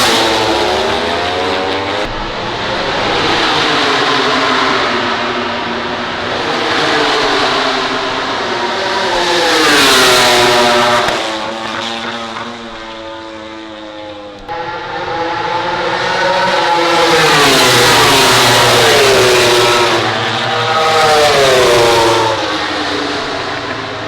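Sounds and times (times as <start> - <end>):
race motorcycles passing at speed: 0.0 - 24.0.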